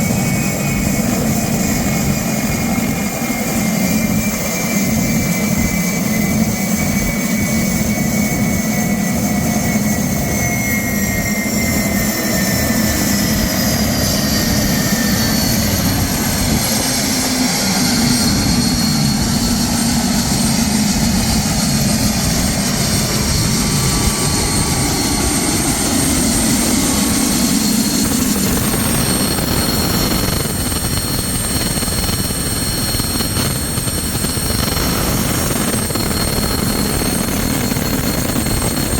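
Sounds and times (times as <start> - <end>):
rotor low drone: 0.0 - 38.9
turbine engine whine: 0.0 - 38.9.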